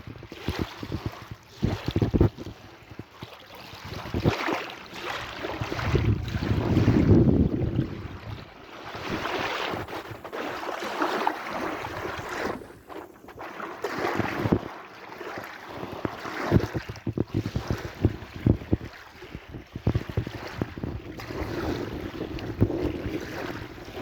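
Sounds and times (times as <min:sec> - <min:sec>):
wind buffeting microphone: 0:00.0 - 0:04.5, 0:05.1 - 0:10.6, 0:11.4 - 0:14.8, 0:15.7 - 0:24.0
sea waves washing in: 0:04.2 - 0:24.0.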